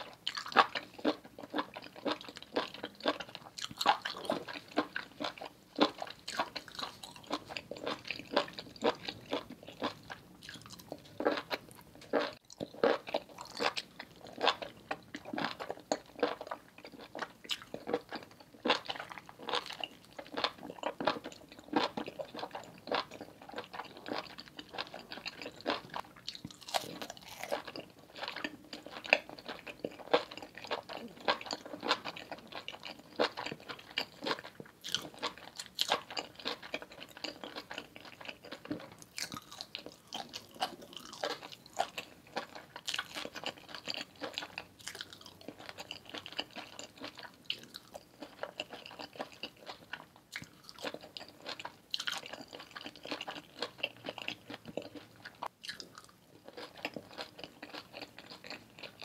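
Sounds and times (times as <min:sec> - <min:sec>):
chewing crunchy food: 0:00.0 - 0:59.0.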